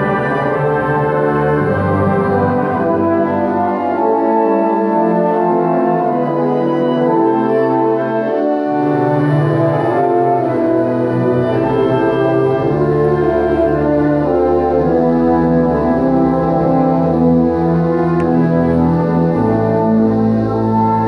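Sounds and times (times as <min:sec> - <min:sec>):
low tuba and double bass line: 0:00.0 - 0:21.0.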